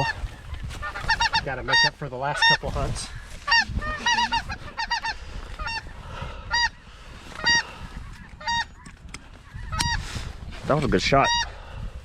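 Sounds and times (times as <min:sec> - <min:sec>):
snow geese honking: 0:00.0 - 0:10.3, 0:11.1 - 0:11.7.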